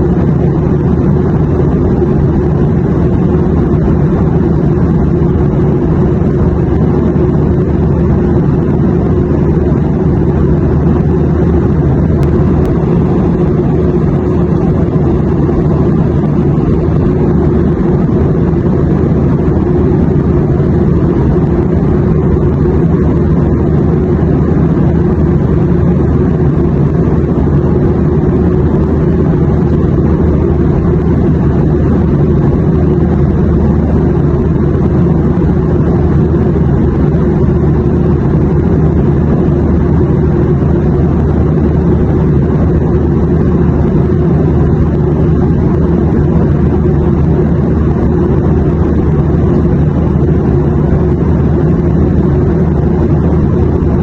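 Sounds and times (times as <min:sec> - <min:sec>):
airplane drone: 0:00.0 - 0:54.0.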